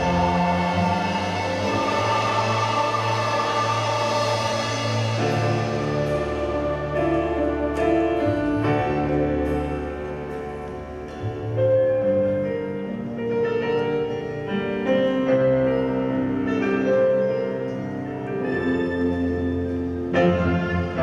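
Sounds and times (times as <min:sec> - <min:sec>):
grand piano slow notes: 0:00.0 - 0:21.0
held ensemble chord: 0:00.0 - 0:21.0
low sustained notes: 0:00.0 - 0:21.0.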